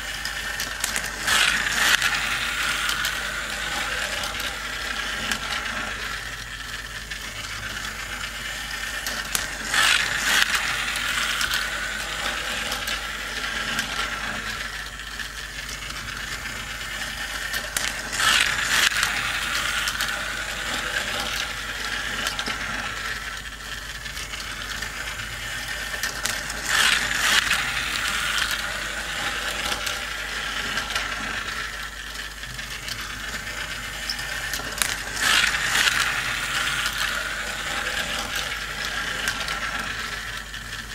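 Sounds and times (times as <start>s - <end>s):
toy cars whirring and rattling: 0.0s - 40.9s.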